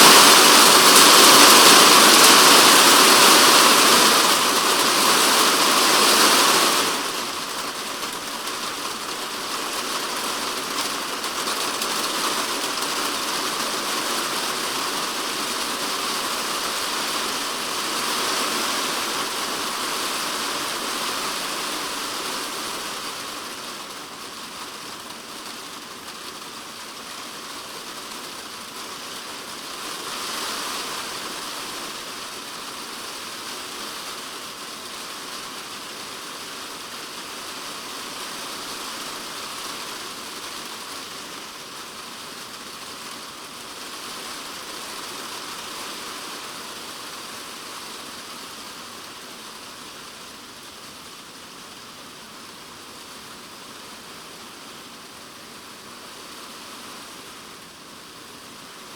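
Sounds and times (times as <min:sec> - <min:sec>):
heavy rain on a plastic roof: 0:00.0 - 0:58.9.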